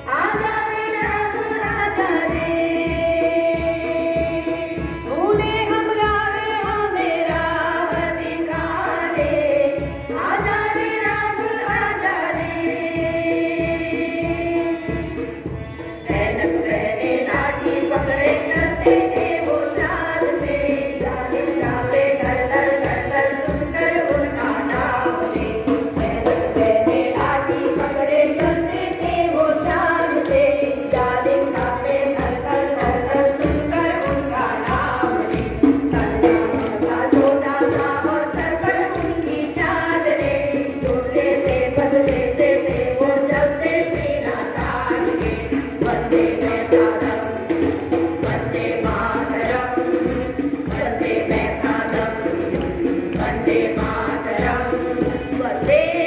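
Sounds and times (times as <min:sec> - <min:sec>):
women singing in unison: 0:00.0 - 0:56.0.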